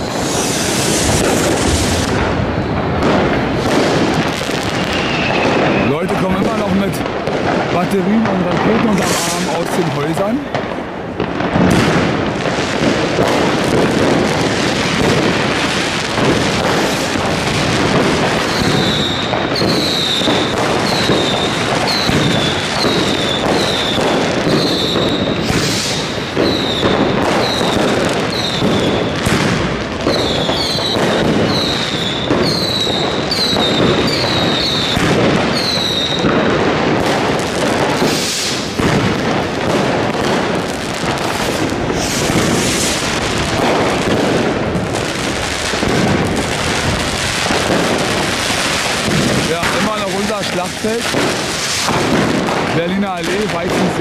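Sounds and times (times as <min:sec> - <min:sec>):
fireworks bangs and crackle: 0:00.0 - 0:54.0.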